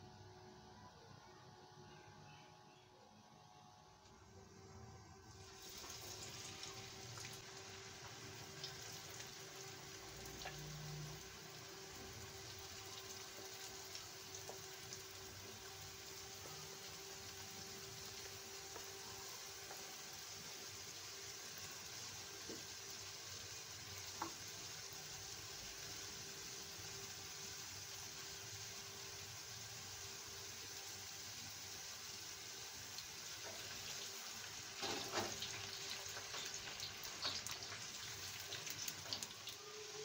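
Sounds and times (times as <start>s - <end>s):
fries sizzling in hot oil: 4.3s - 40.0s.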